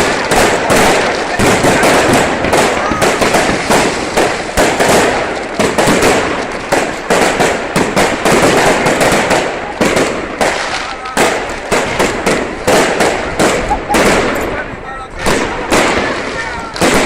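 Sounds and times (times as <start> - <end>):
fireworks bangs: 0.0 - 17.0
fireworks crackle: 0.0 - 17.0.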